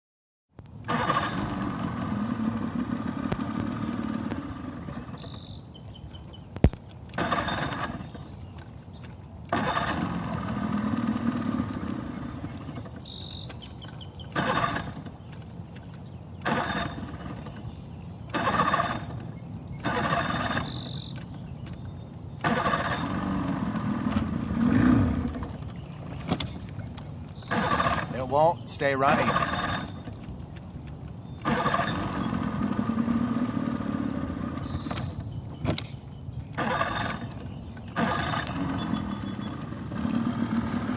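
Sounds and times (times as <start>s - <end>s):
boat engine starting and dying: 0.7s - 6.5s, 7.1s - 40.9s.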